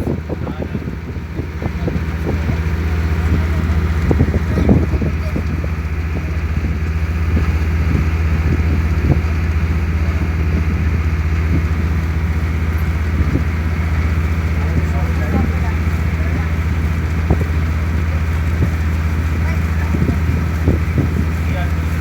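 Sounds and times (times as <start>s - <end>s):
ferry diesel engine drone: 0.0s - 22.0s.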